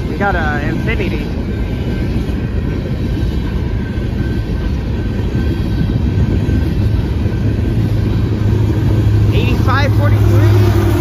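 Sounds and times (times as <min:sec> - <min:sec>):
locomotive hum: 0:00.0 - 0:11.0
train cars rumbling on rails: 0:00.0 - 0:11.0.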